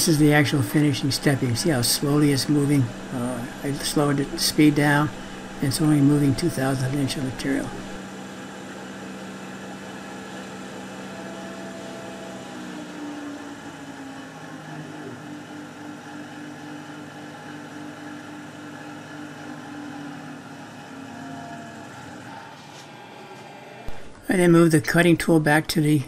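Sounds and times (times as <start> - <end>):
lathe machine hum: 0.0 - 24.2.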